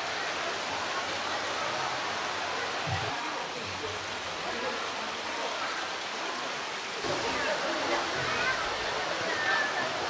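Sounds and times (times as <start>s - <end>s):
faint crowd chatter: 0.0s - 10.0s
running water rushing: 0.0s - 10.0s.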